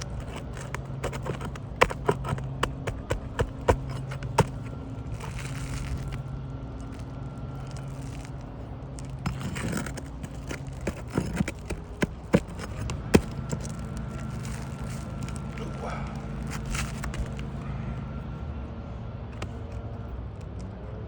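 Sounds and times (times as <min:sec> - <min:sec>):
tools scraping roof shingles: 0:00.0 - 0:17.6
steady low hum: 0:00.0 - 0:20.1.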